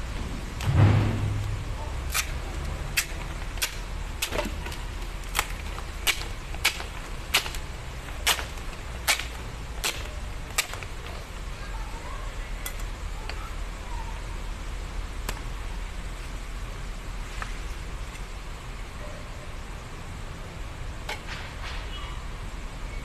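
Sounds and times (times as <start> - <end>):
low steady hum: 0.0 - 21.3.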